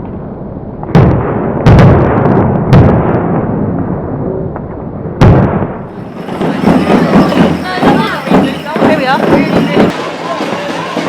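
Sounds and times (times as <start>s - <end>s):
fireworks banging: 0.8s - 4.0s, 4.6s - 11.0s.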